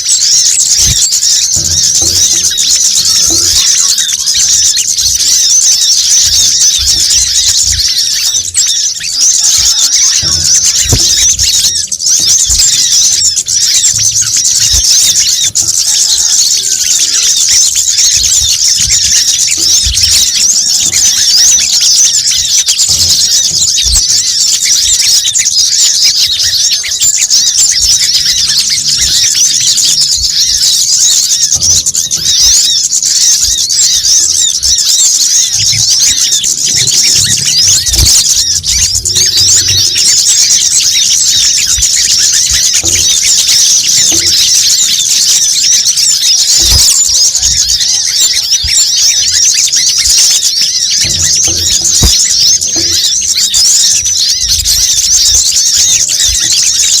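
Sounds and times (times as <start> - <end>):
small birds chattering chorus: 0.0 - 57.0.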